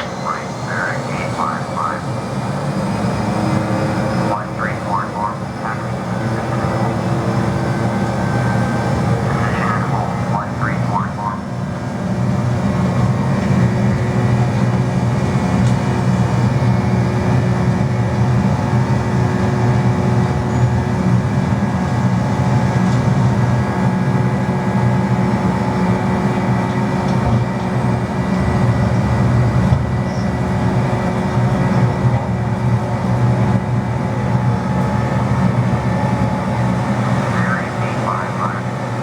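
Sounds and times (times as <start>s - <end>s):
faint steady whines: 0.0s - 39.0s
jet engines droning in cabin: 0.0s - 39.0s.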